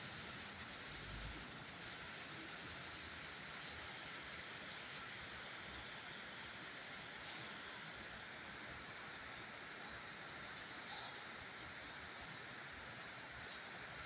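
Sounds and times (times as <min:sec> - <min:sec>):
faint hiss of falling rain: 0:00.0 - 0:14.0.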